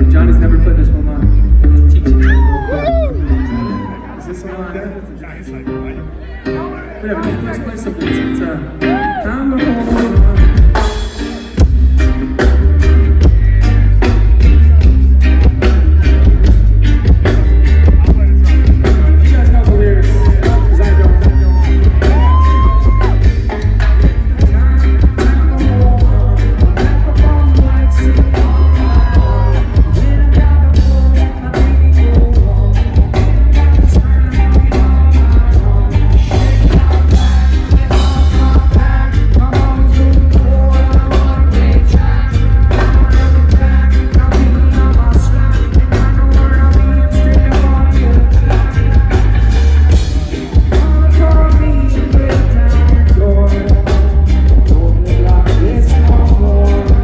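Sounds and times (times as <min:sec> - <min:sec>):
heavy bass line: 0:00.0 - 0:57.0
live band playing: 0:00.0 - 0:57.0
person singing: 0:00.0 - 0:57.0.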